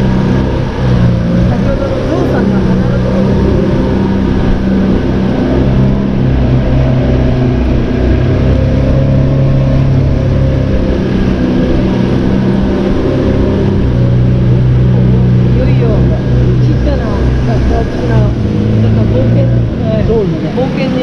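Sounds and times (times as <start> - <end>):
boat engine low drone: 0.0 - 21.0.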